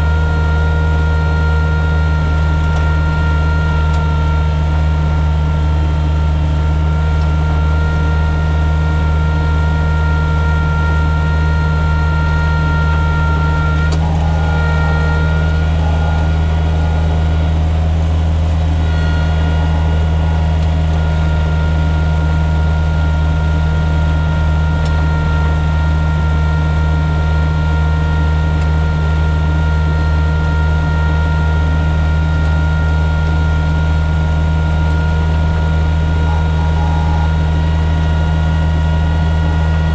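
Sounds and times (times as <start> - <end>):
diesel engine droning: 0.0 - 39.9
steady whine: 0.0 - 39.9.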